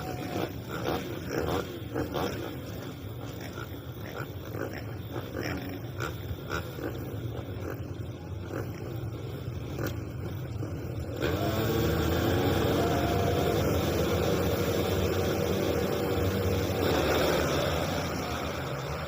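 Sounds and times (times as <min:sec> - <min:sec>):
motocross engines revving: 0:00.0 - 0:19.0.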